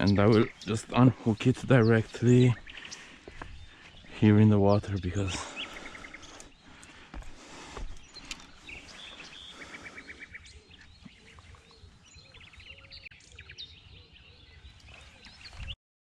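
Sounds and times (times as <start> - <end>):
small birds singing: 0.0 - 15.8.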